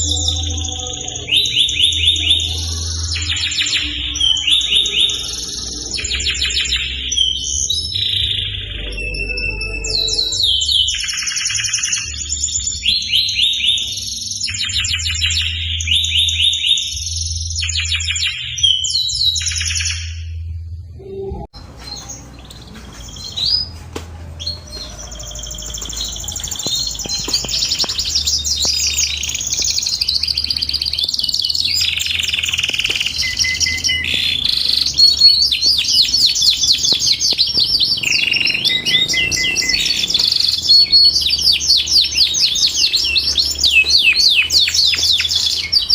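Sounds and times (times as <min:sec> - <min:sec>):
canary singing trills: 0:00.0 - 0:20.4, 0:21.0 - 0:45.9.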